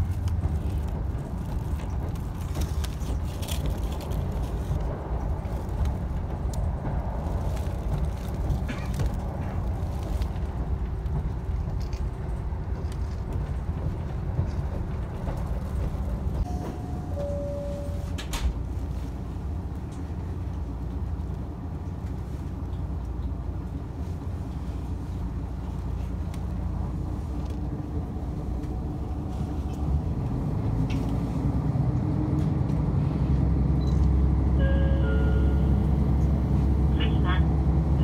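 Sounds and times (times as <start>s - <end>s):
railcar engine rumble: 0.0s - 38.0s.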